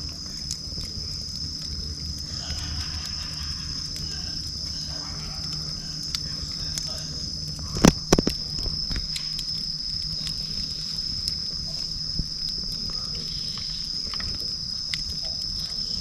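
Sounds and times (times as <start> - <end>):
campfire crackling and popping: 0.0 - 16.0
high-pitched insect trill: 0.0 - 16.0.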